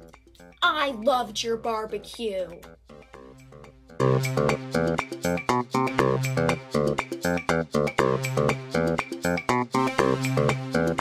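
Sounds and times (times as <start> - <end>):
plucked guitar notes: 1.4 - 10.9
bass line: 1.6 - 11.0.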